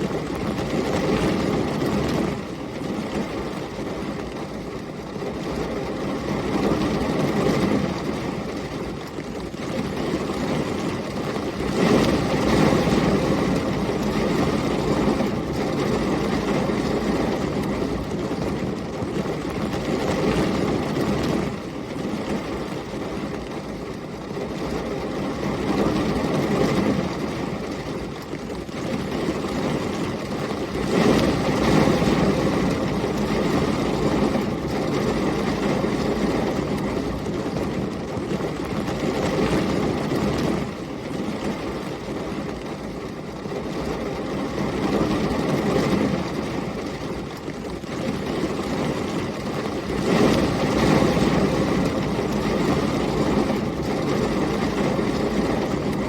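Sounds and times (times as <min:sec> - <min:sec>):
heavy rain: 0:00.0 - 0:56.0
storm wind: 0:00.0 - 0:56.0.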